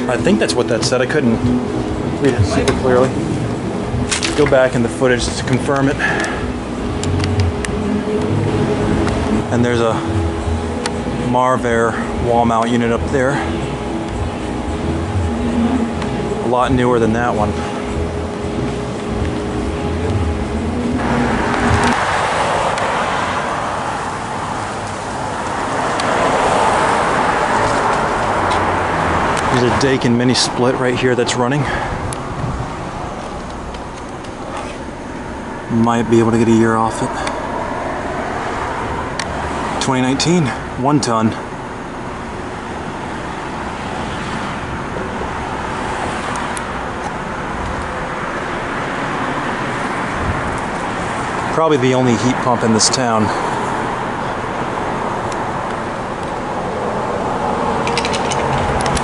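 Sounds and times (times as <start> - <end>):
air conditioner outdoor unit humming: 0.0 - 59.0
road traffic rushing: 0.0 - 59.0.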